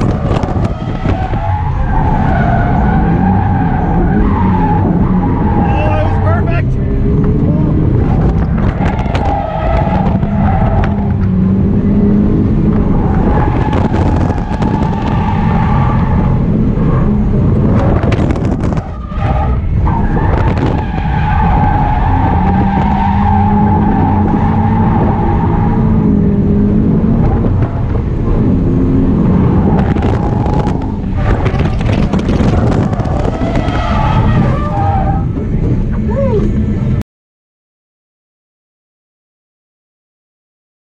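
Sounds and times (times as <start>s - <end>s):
car engine revving: 0.0s - 37.0s
tyres skidding and squealing: 0.0s - 37.0s.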